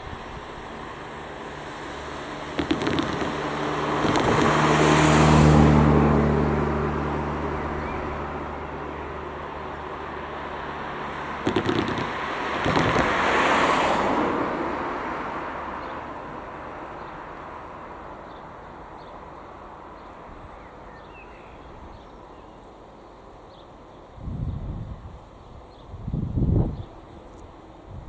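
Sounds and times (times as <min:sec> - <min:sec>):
car engine hum passing by: 0:00.0 - 0:22.6.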